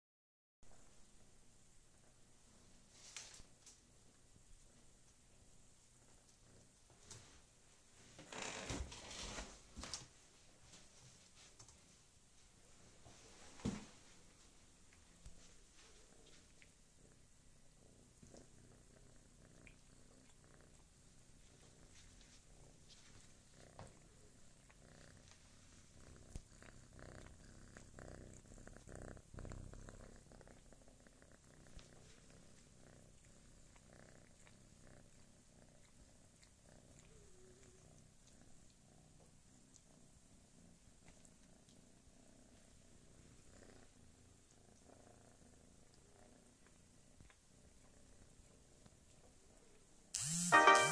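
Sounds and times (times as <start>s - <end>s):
cat purring: 0.7s - 9.7s, 10.6s - 50.1s.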